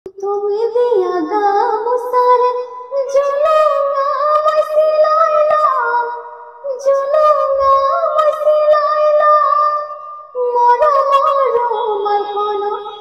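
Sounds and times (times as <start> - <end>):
girl singing long notes: 0.1 - 13.0.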